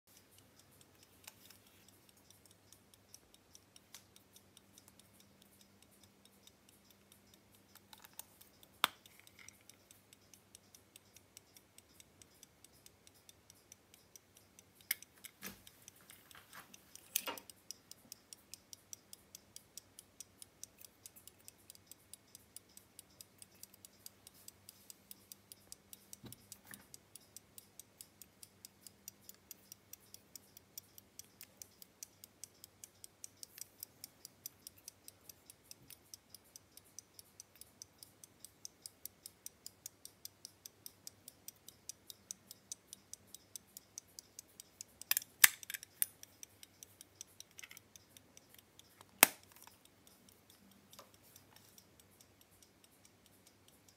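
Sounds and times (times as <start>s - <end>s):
pocket watch ticking: 0.1s - 53.9s.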